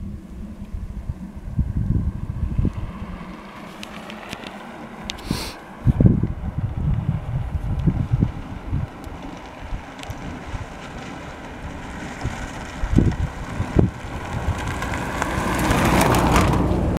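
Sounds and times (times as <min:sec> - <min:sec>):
wind buffeting microphone: 0:00.0 - 0:17.0
car passing by: 0:01.5 - 0:17.0.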